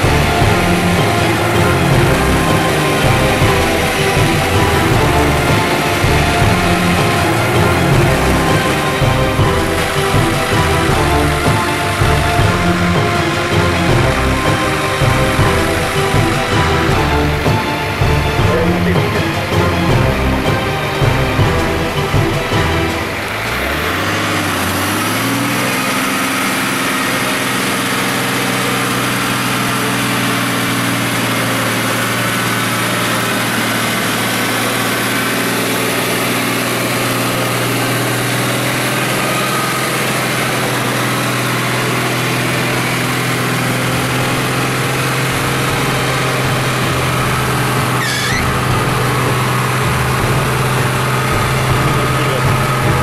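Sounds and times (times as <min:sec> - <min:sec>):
jeep engine running low: 0:00.0 - 0:53.0.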